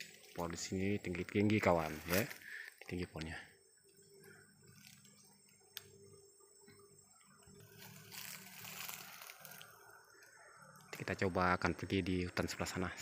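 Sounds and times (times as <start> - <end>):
faint rustling of leaves: 0.0 - 13.0.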